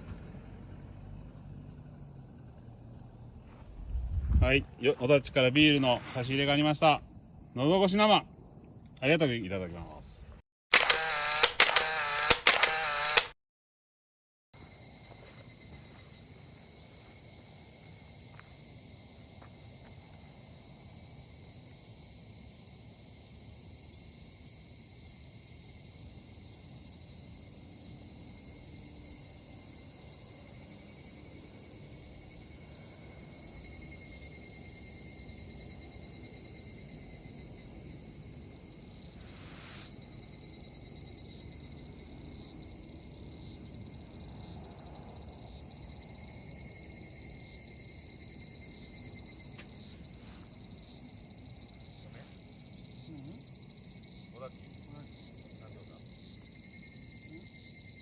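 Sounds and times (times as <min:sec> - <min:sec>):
insects chorus shrilling: 0:00.0 - 0:13.3, 0:14.6 - 0:58.0.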